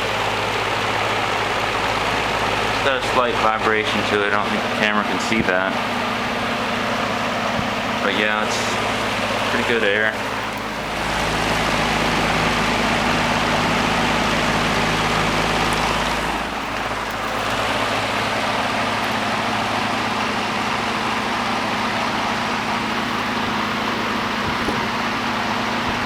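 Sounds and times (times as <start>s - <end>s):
fan air rushing: 0.0s - 26.0s
fan motor hum: 0.0s - 26.0s.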